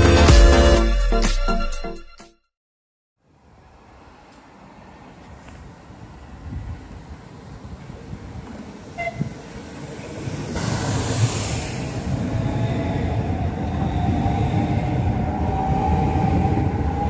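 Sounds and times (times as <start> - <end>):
passenger train whining: 3.3 - 17.0.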